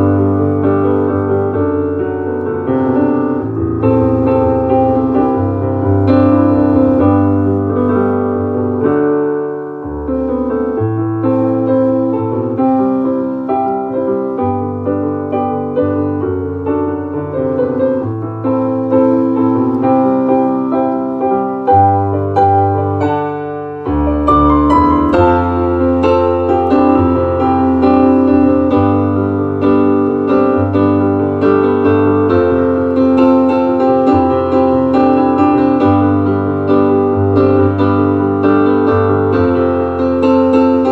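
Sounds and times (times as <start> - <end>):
solo piano ballad: 0.0 - 40.9.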